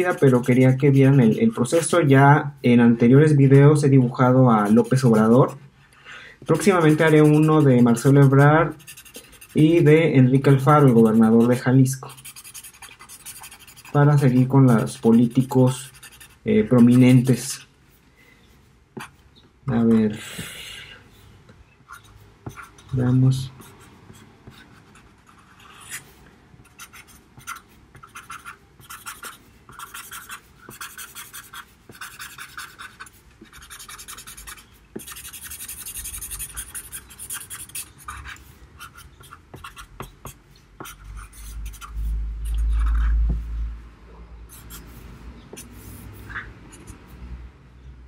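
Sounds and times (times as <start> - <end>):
marker scratching on paper: 0.0 - 2.1, 4.5 - 5.6, 6.4 - 17.7, 19.0 - 19.2, 21.8 - 43.5, 44.5 - 47.2.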